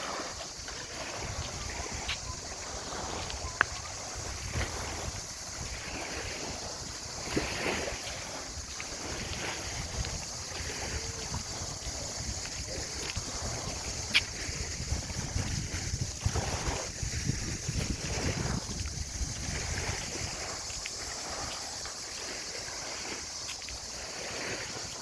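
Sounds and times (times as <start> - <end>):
high-pitched hiss: 0.0 - 25.0
wind buffeting microphone: 0.0 - 25.0.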